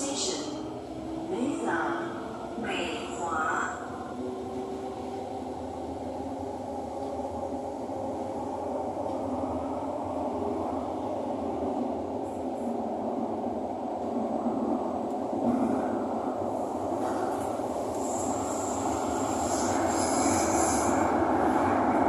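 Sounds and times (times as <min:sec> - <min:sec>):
metro train running rumble: 0:00.0 - 0:22.0.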